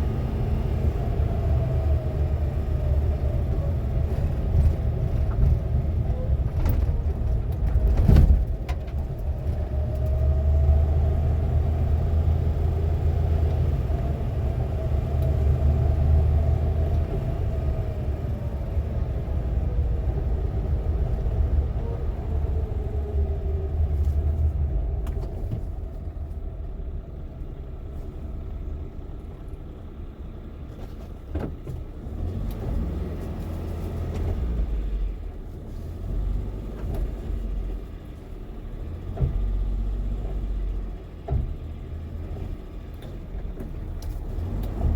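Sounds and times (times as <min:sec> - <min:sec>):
engine and road rumble: 0:00.0 - 0:44.9.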